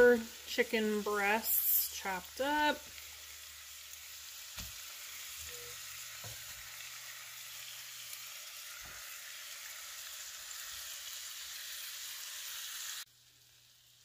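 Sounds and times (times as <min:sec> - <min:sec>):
food sizzling in a skillet: 0:00.0 - 0:14.0.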